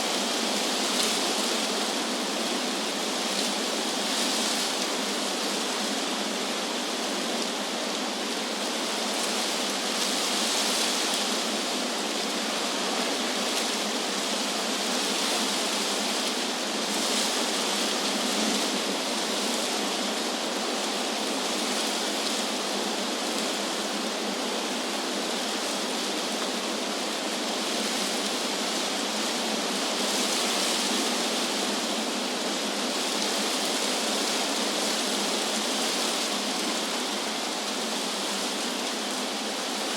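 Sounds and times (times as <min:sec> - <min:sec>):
wind rushing through leaves: 0:00.0 - 0:39.9.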